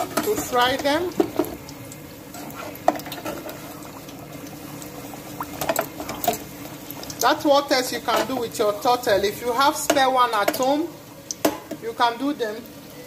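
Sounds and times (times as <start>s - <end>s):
oil bubbling and sizzling: 0.0s - 13.0s.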